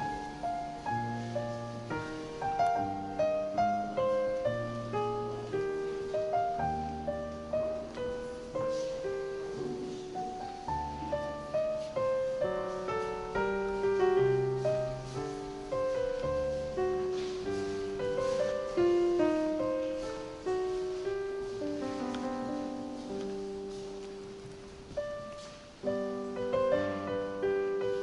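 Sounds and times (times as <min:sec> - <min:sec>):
piano melody: 0:00.0 - 0:28.0.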